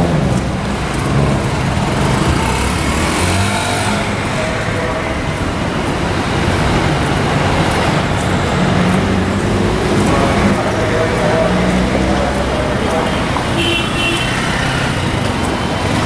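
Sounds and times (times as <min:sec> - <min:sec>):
car engines running: 0:00.0 - 0:16.0
tyres on the road: 0:00.0 - 0:16.0.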